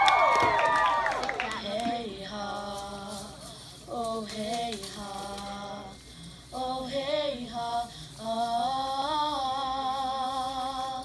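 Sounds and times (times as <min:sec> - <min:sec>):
woman singing: 0:01.0 - 0:11.0.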